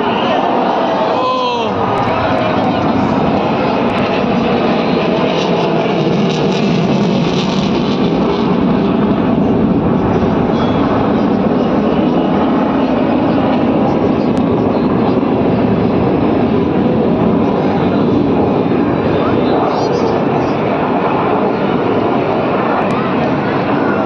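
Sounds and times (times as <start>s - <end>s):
crowd voices: 0.0s - 24.0s
aircraft engine rumble: 1.7s - 24.0s.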